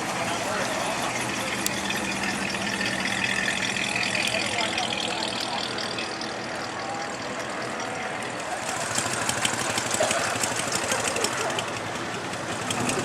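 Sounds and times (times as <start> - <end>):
car engine idling: 0.0 - 13.0
rapid engine ticking: 0.0 - 13.0.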